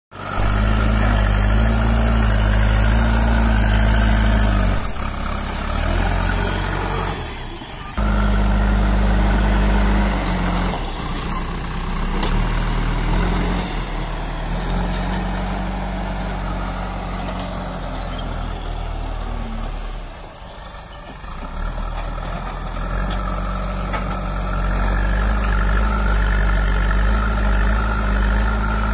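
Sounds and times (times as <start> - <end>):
backhoe diesel engine running: 0.1 - 28.9.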